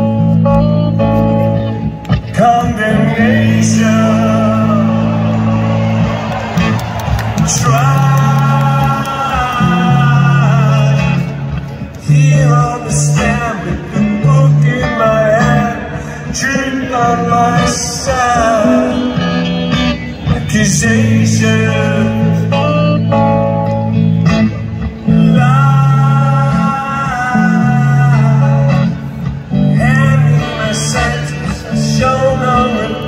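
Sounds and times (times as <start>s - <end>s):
guitar: 0.0s - 33.0s
man singing: 2.2s - 5.9s, 7.4s - 23.6s, 24.9s - 33.0s.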